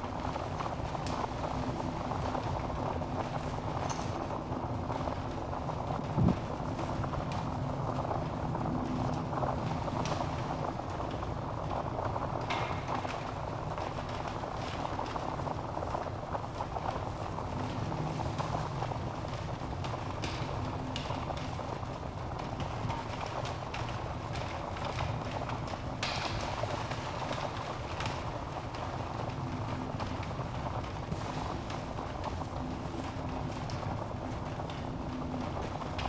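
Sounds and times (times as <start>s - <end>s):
wood fire burning and crackling: 0.0s - 36.0s.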